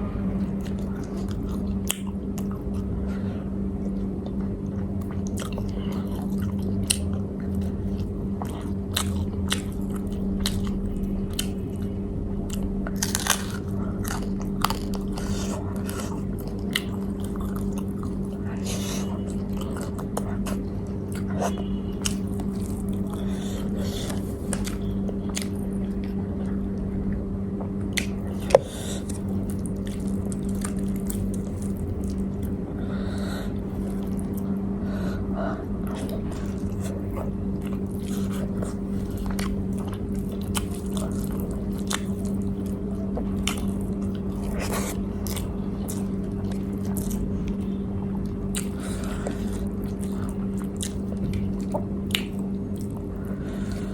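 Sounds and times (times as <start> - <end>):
steady low hum: 0.0 - 53.9
person chewing food: 0.5 - 53.9.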